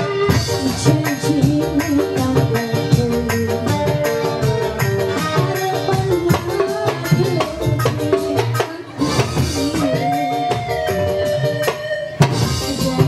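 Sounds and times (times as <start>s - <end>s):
live band music: 0.0s - 13.0s
woman singing into microphone: 0.0s - 13.0s
hand drums beating: 0.1s - 13.0s.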